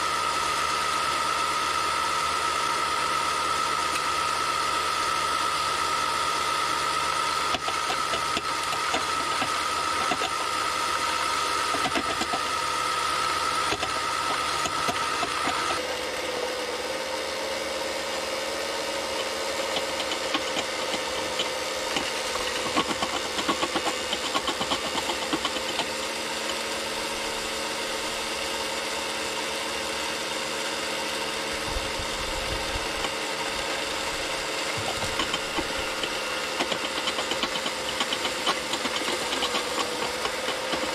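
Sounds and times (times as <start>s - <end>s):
engine-like drone: 0.0s - 40.9s
motor and hydraulic pump whine: 0.0s - 40.9s.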